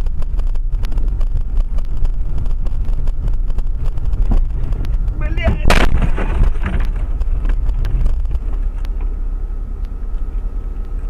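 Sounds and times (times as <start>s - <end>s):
car engine and road noise: 0.0s - 11.0s
wind buffeting microphone: 0.0s - 11.0s.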